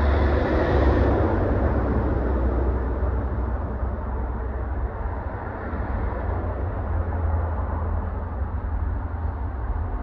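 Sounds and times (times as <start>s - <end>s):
diesel locomotive rumble: 0.0s - 10.0s.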